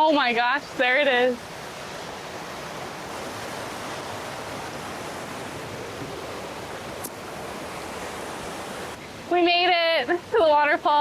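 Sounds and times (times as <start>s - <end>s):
waterfall rushing into pond: 0.0s - 11.0s.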